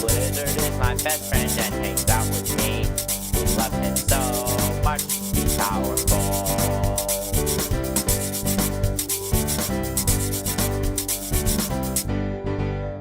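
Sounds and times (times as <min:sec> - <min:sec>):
music with steady beat: 0:00.0 - 0:12.3.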